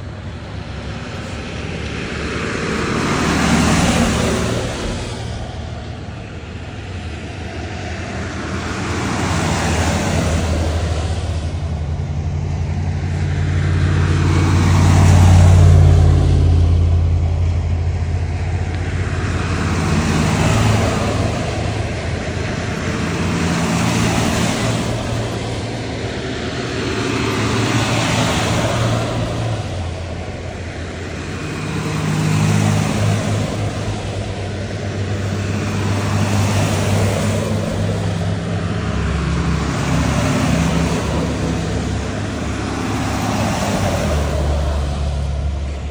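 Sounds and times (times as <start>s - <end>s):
buses driving past: 0.0s - 45.9s.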